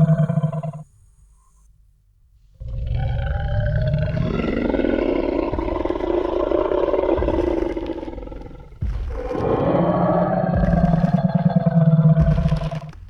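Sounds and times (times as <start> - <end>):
dinosaur roar with deep rumble: 0.0 - 0.9, 2.6 - 13.0.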